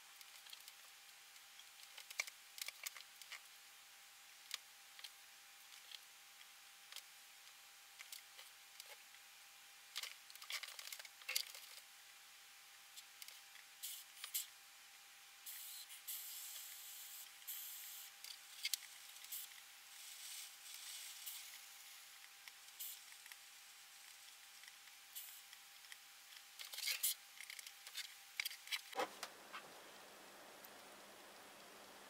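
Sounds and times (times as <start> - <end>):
faint steady whine: 0.0 - 32.0.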